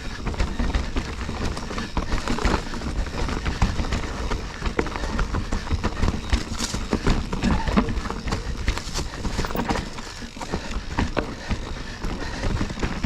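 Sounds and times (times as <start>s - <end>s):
bike rattling over rocks: 0.0s - 13.0s.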